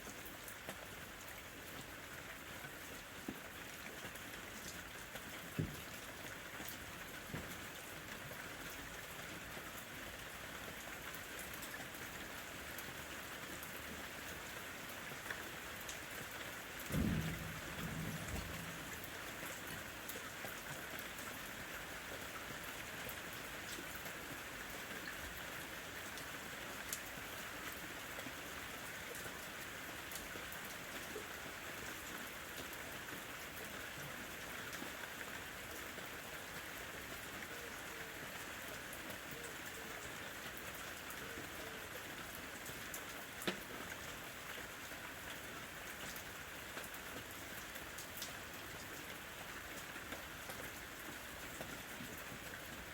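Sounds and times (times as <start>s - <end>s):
raindrops ticking on a surface: 0.0s - 52.9s
steady rain falling: 0.0s - 52.9s.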